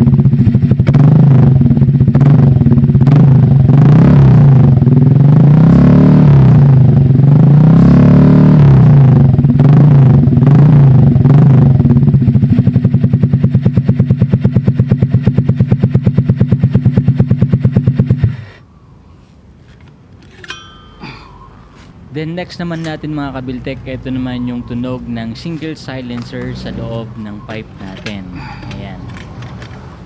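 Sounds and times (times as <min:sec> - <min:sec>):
scooter engine revving and idling: 0:00.0 - 0:18.6, 0:23.2 - 0:30.0.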